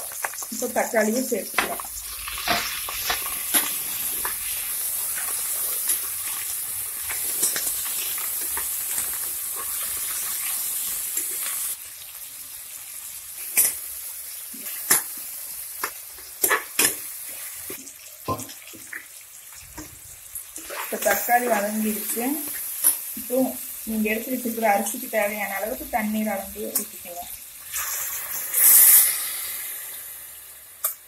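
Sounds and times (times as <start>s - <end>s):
vegetables sizzling in hot oil: 0.0s - 31.0s.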